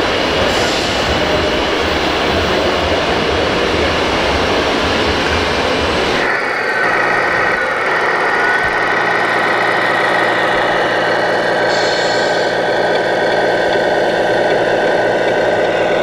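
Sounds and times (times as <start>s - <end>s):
model truck engine rumbling: 0.0s - 16.0s.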